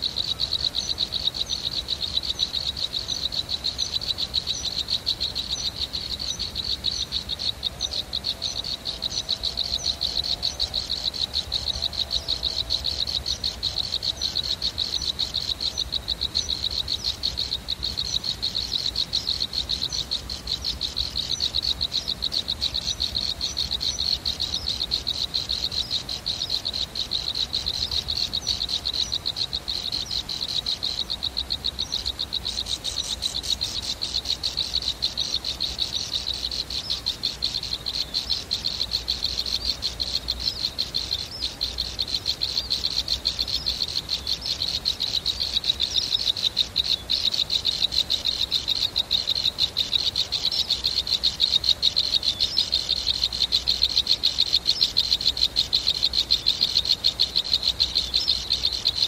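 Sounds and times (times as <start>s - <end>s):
frogs and insects trilling: 0.0s - 59.0s.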